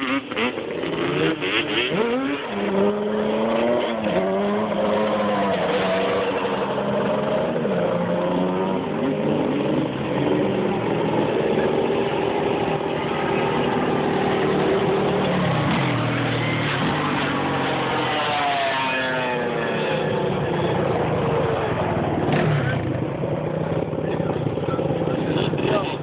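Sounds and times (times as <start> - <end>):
quad engines revving: 0.0 - 26.0.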